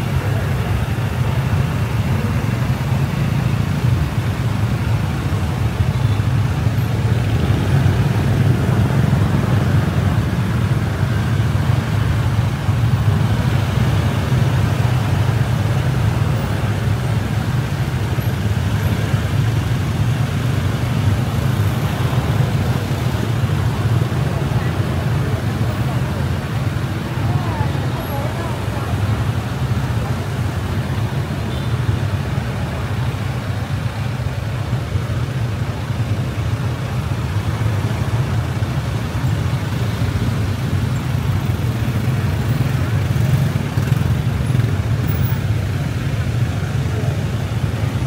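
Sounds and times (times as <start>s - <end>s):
car engine rumble: 0.0s - 48.0s.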